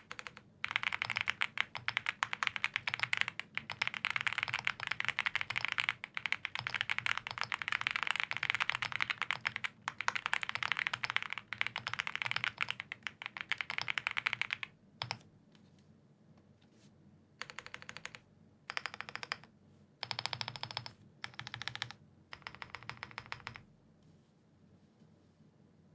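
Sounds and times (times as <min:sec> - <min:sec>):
mechanical keyboard typing: 0:00.0 - 0:15.2, 0:17.4 - 0:23.7.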